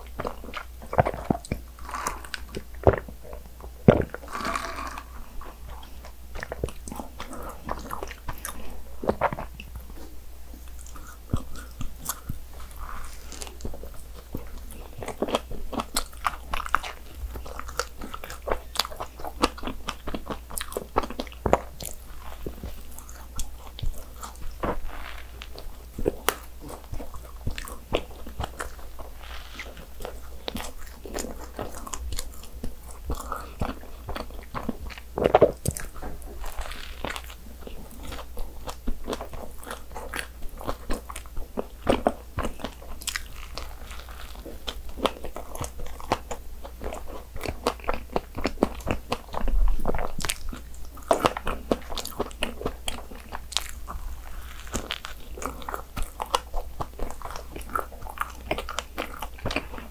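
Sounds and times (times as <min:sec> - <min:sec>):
biting and chewing bun: 0:00.0 - 0:59.9.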